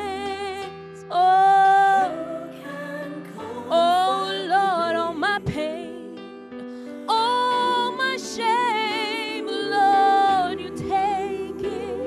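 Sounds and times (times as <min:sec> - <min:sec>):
sustained backing chords: 0:00.0 - 0:12.0.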